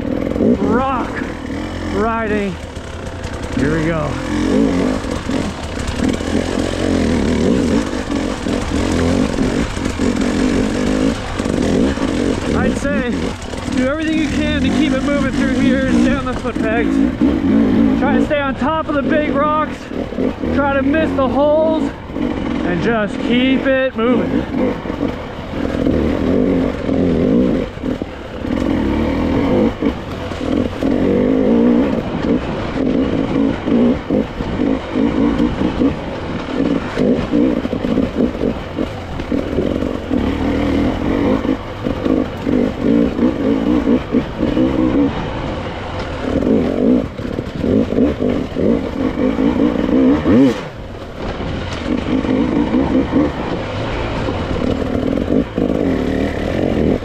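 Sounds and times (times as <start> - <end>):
dirt bike engine revving: 0.0 - 57.0
engine knock: 1.2 - 20.4, 21.3 - 57.0.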